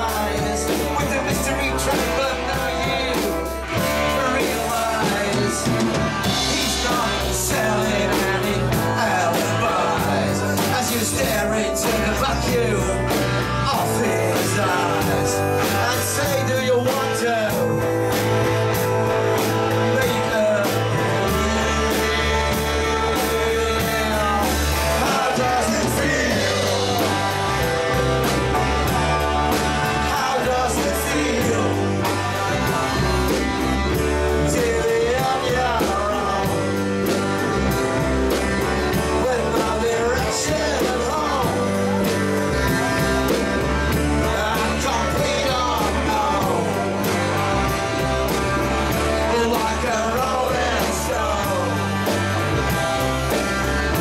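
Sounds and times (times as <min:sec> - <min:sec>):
bass line: 0:00.0 - 0:54.0
drums: 0:00.0 - 0:54.0
electric guitar: 0:00.0 - 0:54.0
male vocals: 0:00.0 - 0:54.0.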